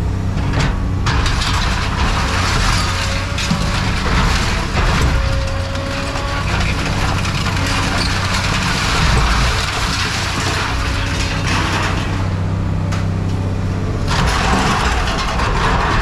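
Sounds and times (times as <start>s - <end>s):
heavy diesel machine running: 0.0s - 16.0s
scrap metal scraping and grinding: 0.0s - 16.0s.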